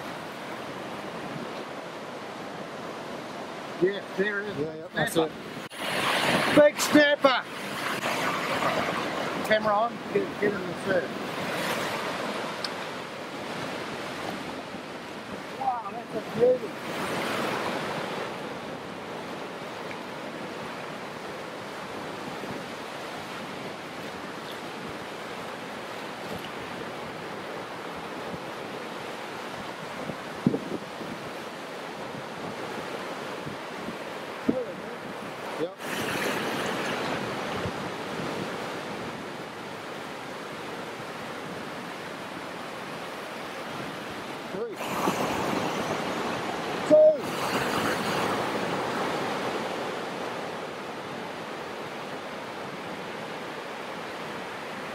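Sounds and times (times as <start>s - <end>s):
waves washing up a beach: 0.0s - 54.9s.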